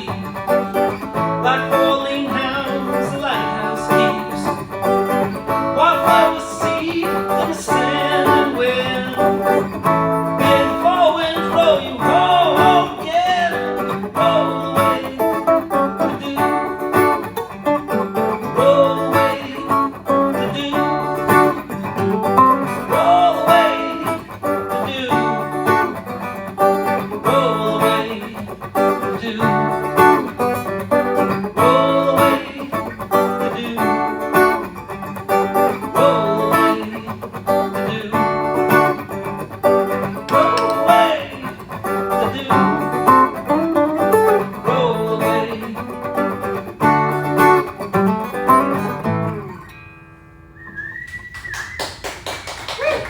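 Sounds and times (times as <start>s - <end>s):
guitar strumming chords: 0.0s - 51.1s.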